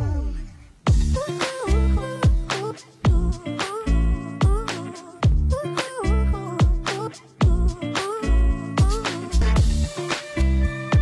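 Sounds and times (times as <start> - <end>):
upbeat music with drum beat: 0.9 - 11.0.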